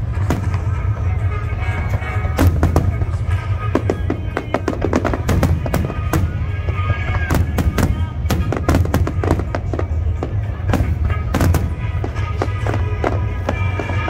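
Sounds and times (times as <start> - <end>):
fireworks bangs and crackles: 0.0 - 14.0
music: 0.0 - 14.0.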